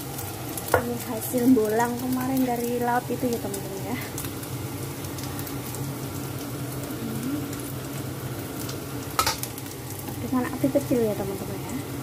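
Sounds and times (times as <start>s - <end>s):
omelette sizzling in oil: 0.0s - 12.0s.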